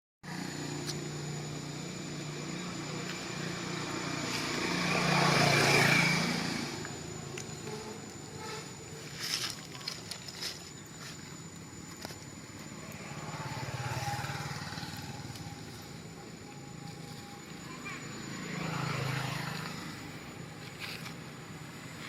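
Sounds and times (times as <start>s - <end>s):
vehicle engine passing by: 0.2s - 9.9s, 12.6s - 22.0s.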